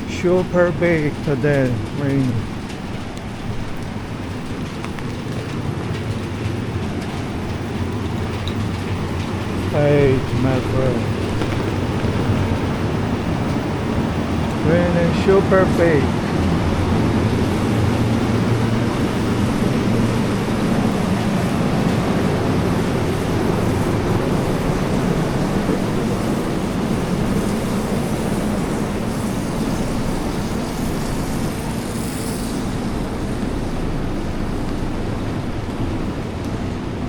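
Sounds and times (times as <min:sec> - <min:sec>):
heavy rain falling: 0:00.0 - 0:37.0
street traffic: 0:00.0 - 0:37.0.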